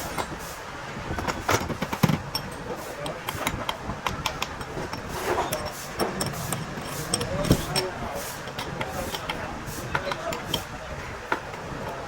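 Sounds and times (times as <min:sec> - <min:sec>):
steady mechanical noise: 0:00.0 - 0:12.0.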